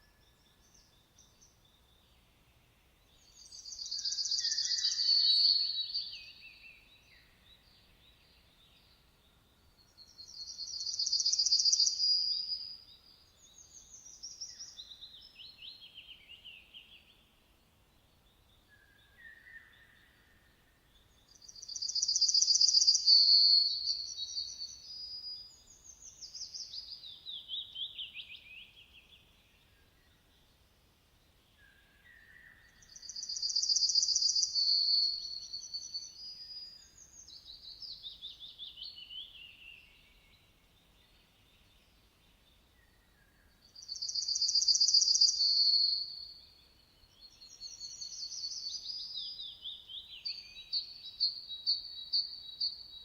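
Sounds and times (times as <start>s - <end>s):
songbird trilling song: 0.0s - 53.0s.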